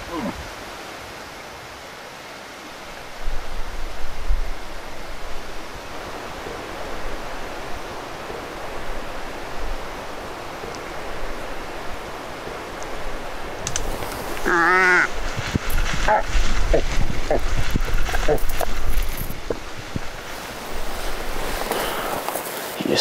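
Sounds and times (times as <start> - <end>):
rushing wind: 0.0 - 23.0
wind buffeting microphone: 3.1 - 22.2.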